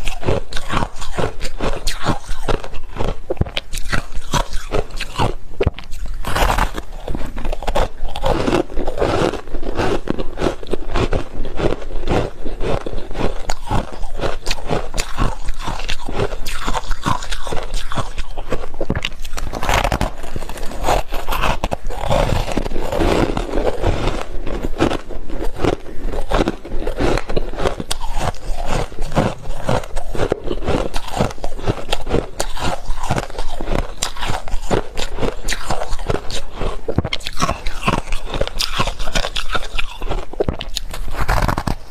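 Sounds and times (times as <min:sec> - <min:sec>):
chewing frost crunches: 0:00.0 - 0:41.9.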